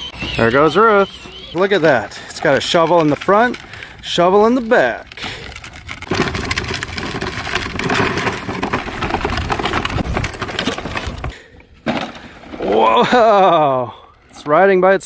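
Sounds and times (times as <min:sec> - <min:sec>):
toy wheels crunching over dirt: 0:00.0 - 0:15.0.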